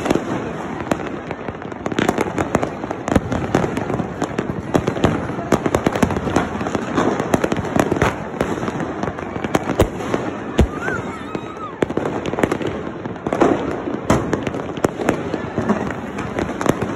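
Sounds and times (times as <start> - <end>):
firecracker crackle: 0.0 - 16.9
fireworks bangs and pops: 0.0 - 16.9.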